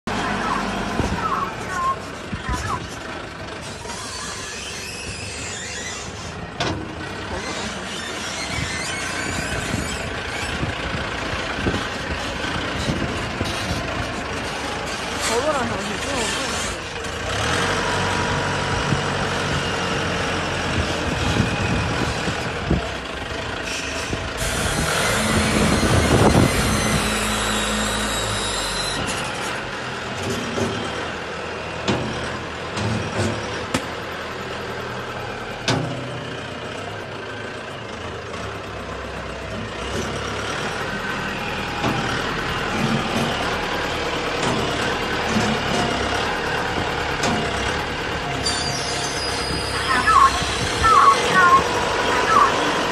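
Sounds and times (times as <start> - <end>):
diesel engine running: 0.1 - 52.9.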